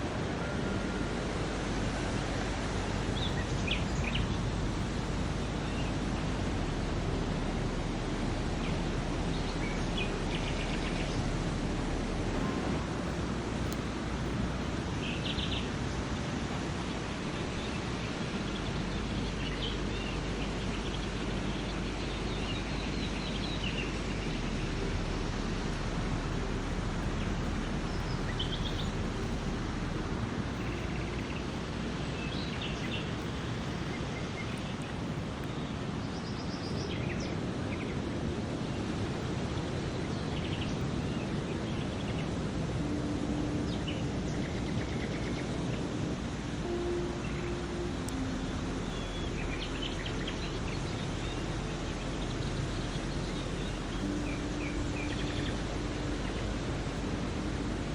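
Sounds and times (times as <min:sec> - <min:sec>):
steady background noise: 0:00.0 - 0:57.9
small birds chirping: 0:03.0 - 0:06.3, 0:12.3 - 0:24.9, 0:25.6 - 0:57.5.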